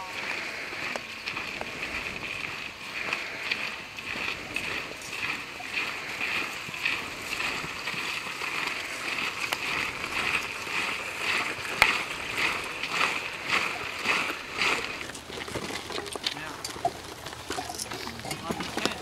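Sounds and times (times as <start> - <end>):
marching footsteps crunching: 0.0 - 19.0.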